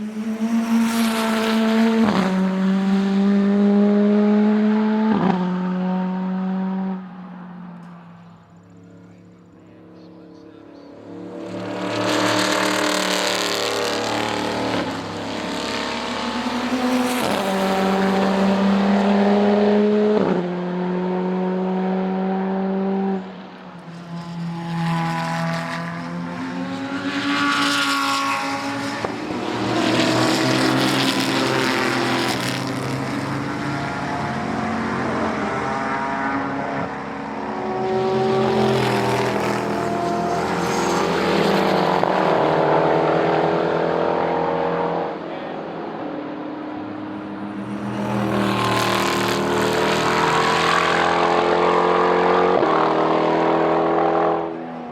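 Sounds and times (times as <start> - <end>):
race cars passing at speed: 0.0 - 54.9.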